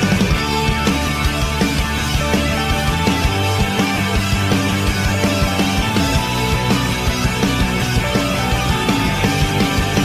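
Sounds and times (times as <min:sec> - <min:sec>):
rock music with a beat: 0:00.0 - 0:10.0.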